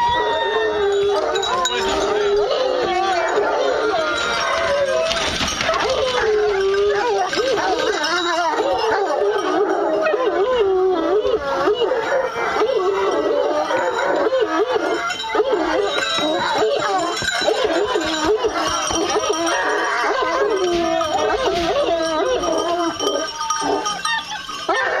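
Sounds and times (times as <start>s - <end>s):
hounds baying and yelping: 0.0s - 25.0s.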